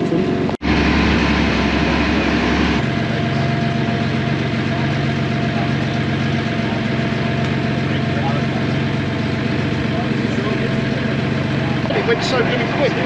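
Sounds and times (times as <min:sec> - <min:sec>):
boat engine running: 0:00.0 - 0:13.0
wind: 0:00.0 - 0:13.0.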